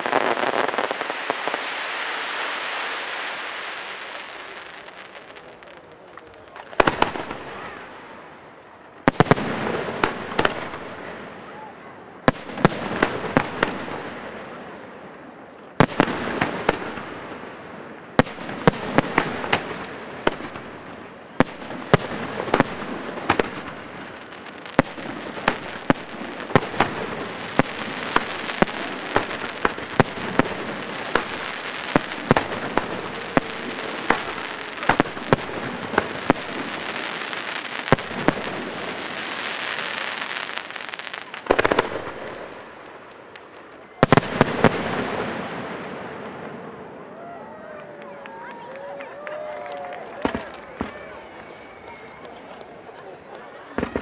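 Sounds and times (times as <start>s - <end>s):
fireworks crackling: 0.0s - 54.0s.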